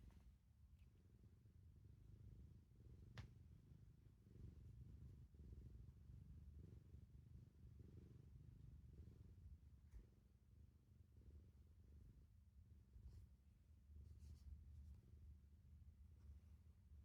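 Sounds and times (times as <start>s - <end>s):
cat purring: 0.0s - 15.2s.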